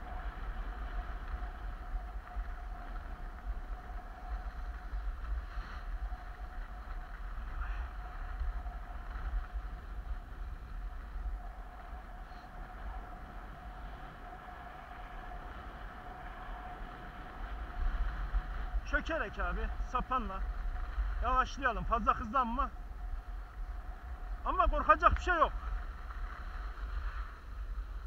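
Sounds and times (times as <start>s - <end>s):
skis sliding over snow: 0.0s - 28.0s
wind buffeting microphone: 0.0s - 28.0s.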